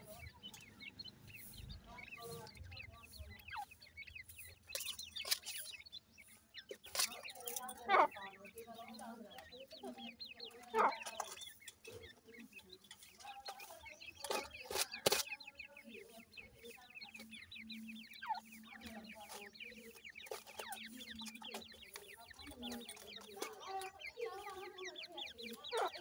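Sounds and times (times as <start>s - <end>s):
chicks peeping: 0.0s - 26.0s
hen clucking: 0.0s - 26.0s.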